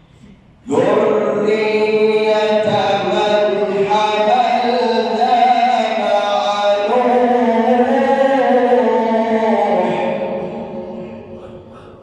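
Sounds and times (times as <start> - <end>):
man reciting in melodic style: 0.2 - 12.0.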